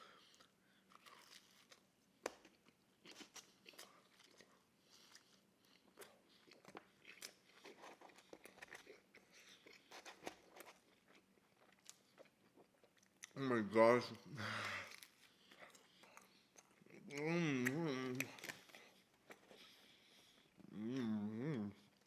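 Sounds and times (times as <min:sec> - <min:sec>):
chewing crunchy pizza: 0:00.0 - 0:22.0.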